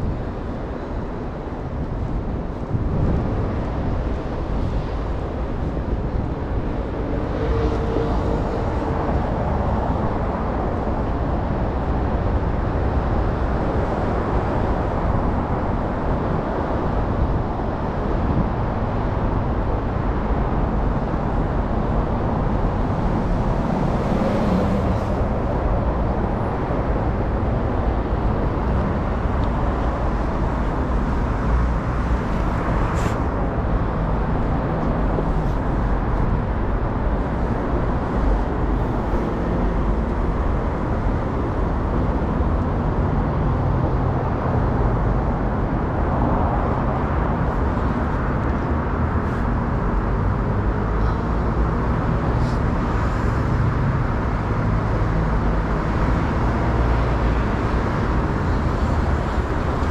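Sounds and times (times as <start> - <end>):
cars and trucks passing: 0.0 - 59.9.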